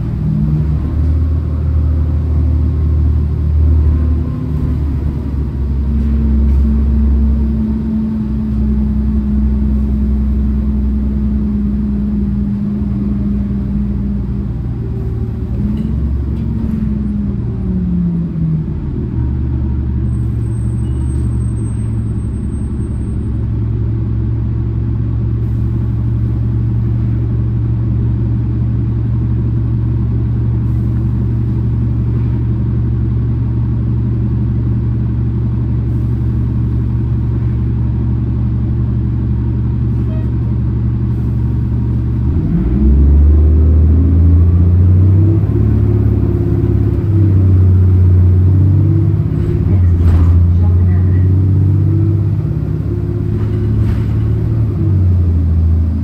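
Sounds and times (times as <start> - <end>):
bus engine drone: 0.0 - 56.0
low road rumble: 0.0 - 56.0.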